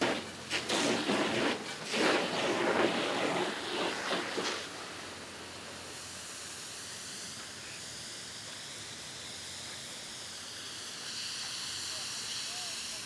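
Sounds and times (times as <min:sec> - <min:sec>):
hose spraying water hiss: 0:00.0 - 0:13.0.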